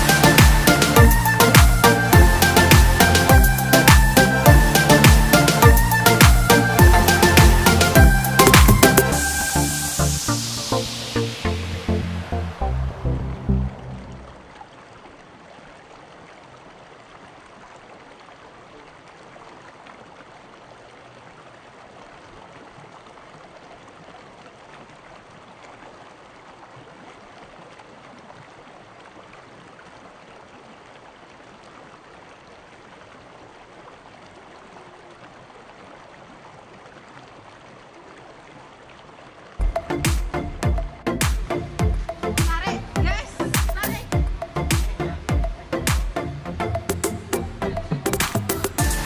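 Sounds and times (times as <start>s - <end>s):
water rushing over rocks: 0.0s - 49.0s.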